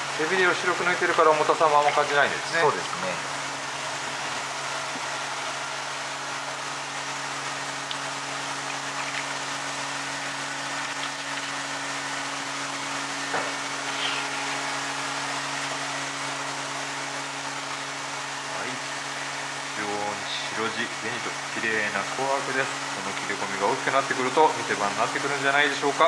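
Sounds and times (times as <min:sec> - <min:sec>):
low pump hum: 0:00.0 - 0:26.0.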